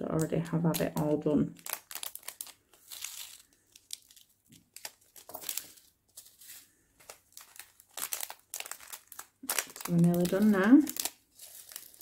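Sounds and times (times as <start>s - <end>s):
plastic bags crinkling: 0.1s - 12.0s.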